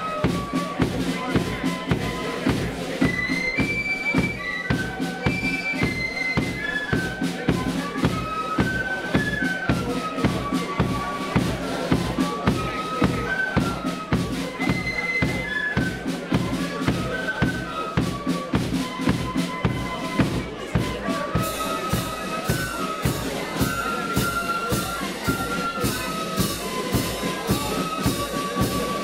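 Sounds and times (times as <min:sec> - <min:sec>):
flute band playing a march: 0:00.0 - 0:29.0.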